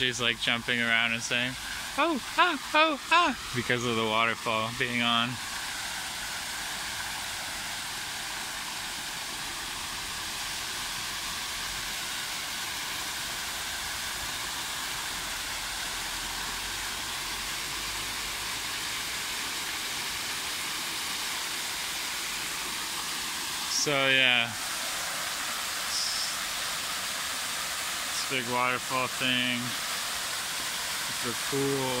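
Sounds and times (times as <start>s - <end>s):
waterfall rushing into pool: 0.0s - 32.0s.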